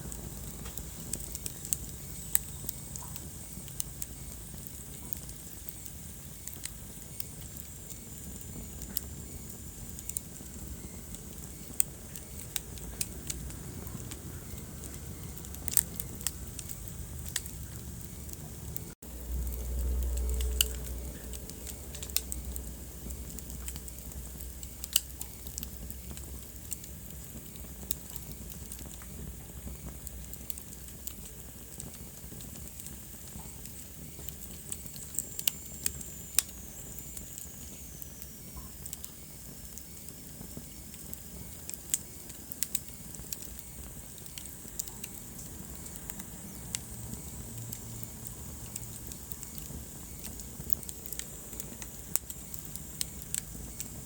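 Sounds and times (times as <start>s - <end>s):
fire burning with crackles: 0.0s - 54.0s
sharp pops of fire: 0.0s - 54.0s.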